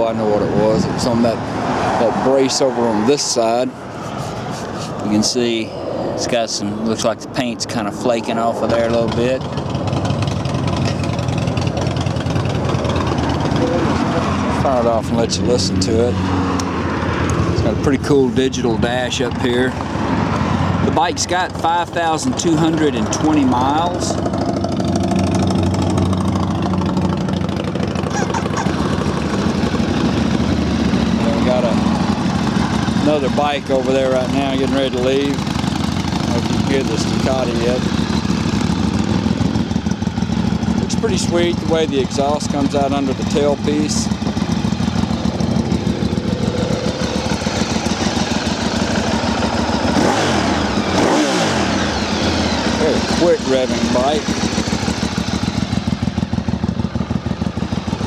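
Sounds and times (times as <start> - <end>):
motorcycle engine revving: 0.0 - 58.0
motorcycle engine idling: 7.0 - 58.0.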